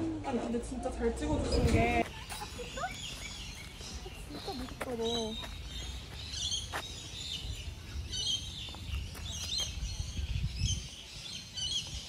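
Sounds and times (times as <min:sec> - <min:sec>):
small birds chirping: 0:01.2 - 0:12.0.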